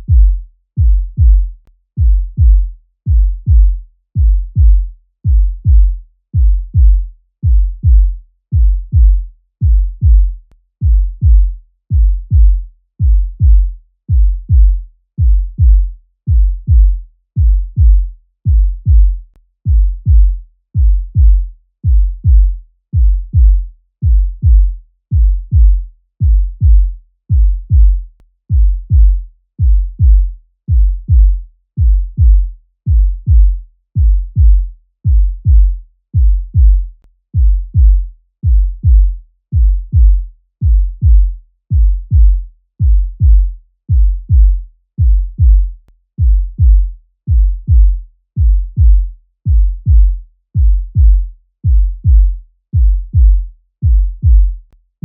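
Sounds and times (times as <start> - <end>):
heartbeat thumps: 0.0 - 54.7.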